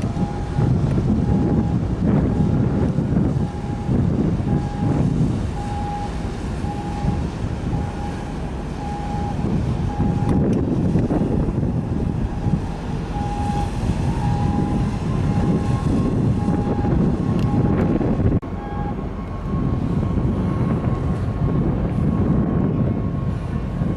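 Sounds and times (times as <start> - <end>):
boat engines rumbling: 0.0 - 23.9
wind on microphone: 0.0 - 23.9.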